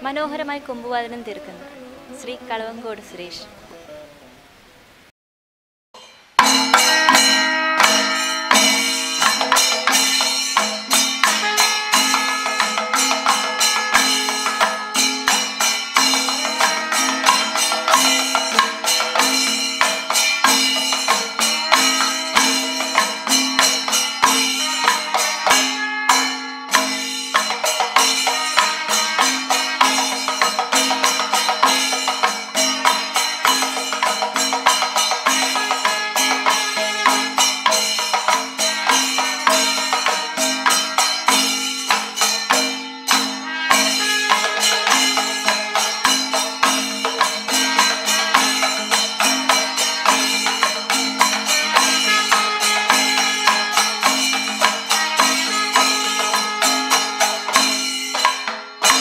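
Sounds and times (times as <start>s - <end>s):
cymbals clashing: 6.0s - 59.0s
drums in steady rhythm: 6.0s - 59.0s
held horn notes: 6.4s - 59.0s.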